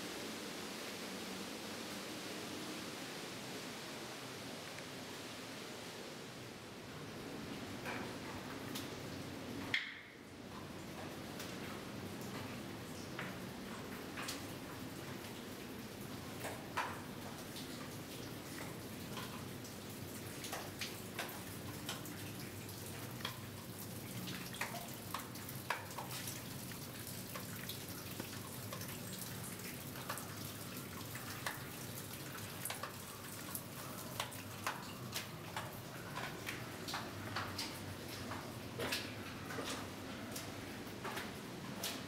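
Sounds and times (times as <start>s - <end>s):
water dripping in tunnel: 6.8s - 42.0s.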